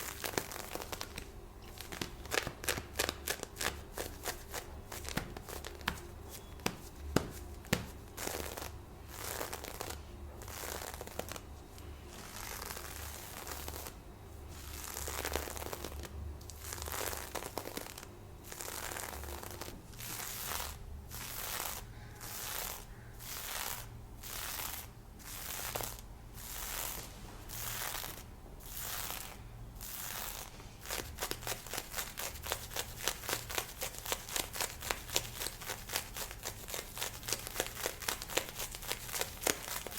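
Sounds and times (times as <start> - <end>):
stockings being scratched: 0.0 - 11.4, 12.1 - 39.9.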